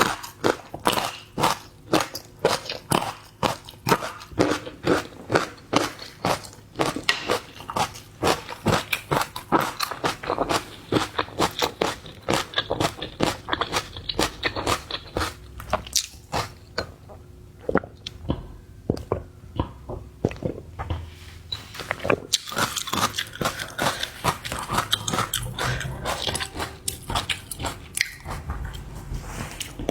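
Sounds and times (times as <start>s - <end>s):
crunching and chewing food: 0.0s - 29.9s.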